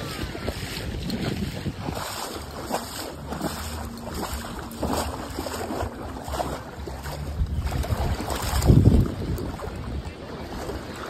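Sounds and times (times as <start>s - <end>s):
sea water sloshing: 0.0s - 11.0s
wind rumbling on microphone: 0.0s - 11.0s.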